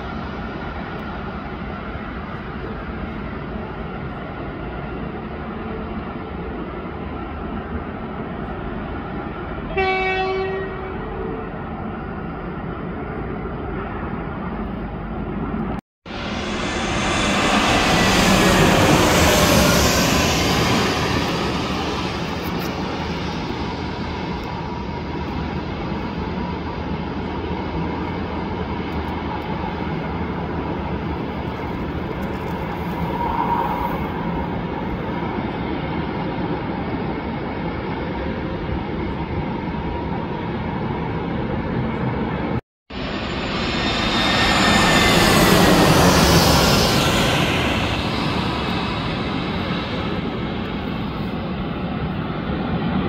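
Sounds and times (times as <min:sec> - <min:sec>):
jet engines rumbling with whine: 0:00.0 - 0:09.7, 0:11.4 - 0:53.0.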